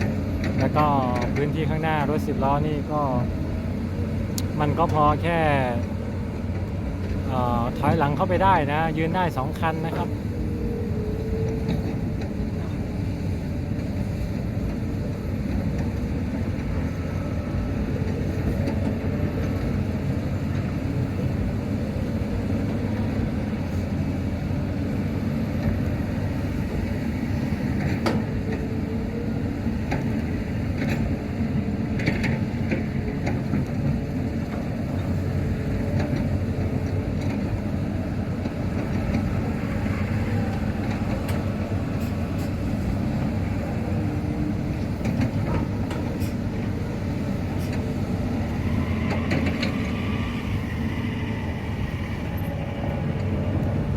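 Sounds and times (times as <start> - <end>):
excavator diesel engine under load: 0.0 - 53.9.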